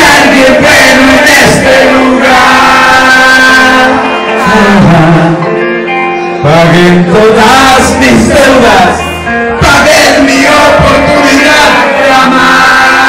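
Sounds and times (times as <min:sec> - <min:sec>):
live band playing loud music: 0:00.0 - 0:13.0.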